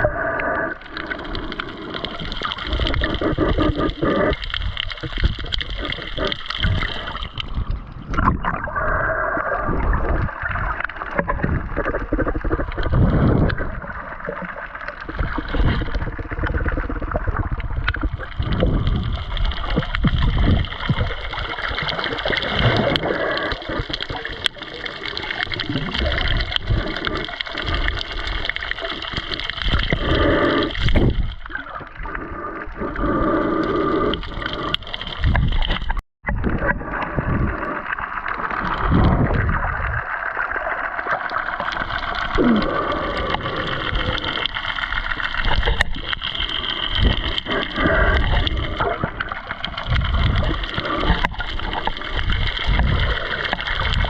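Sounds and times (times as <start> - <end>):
water gurgling underwater: 0.0 - 54.0.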